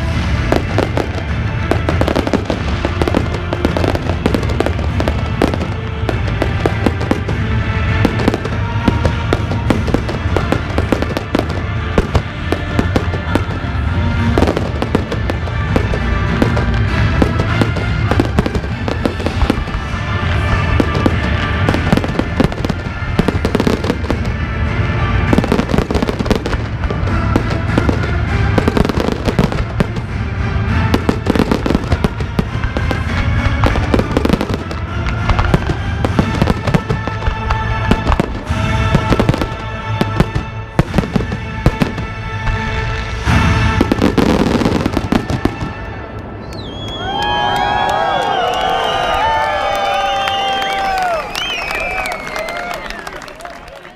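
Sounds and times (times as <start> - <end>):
fireworks bursting and crackling: 0.0 - 53.6
music: 0.0 - 53.9.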